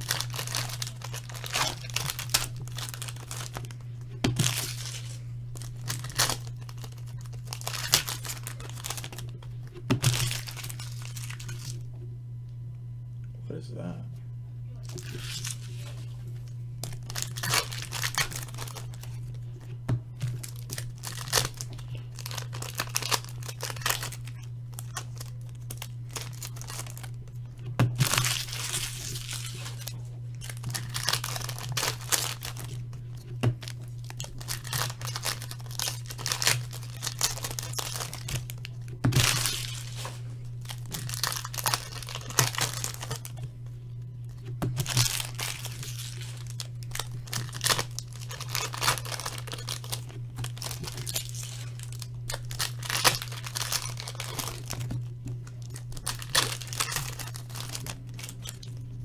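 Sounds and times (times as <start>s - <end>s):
card packs torn open: 0.0s - 11.9s, 14.8s - 27.4s, 28.0s - 43.5s, 44.6s - 58.8s
wrappers crinkling: 0.0s - 11.9s, 14.8s - 43.6s, 44.2s - 59.0s
steady low hum: 0.0s - 59.0s.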